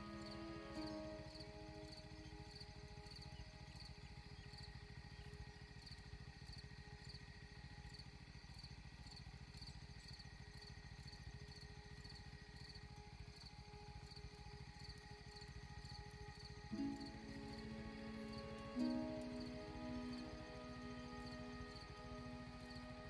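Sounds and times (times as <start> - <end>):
faint insect chirping: 0.0 - 23.0
low background hum: 0.0 - 23.0.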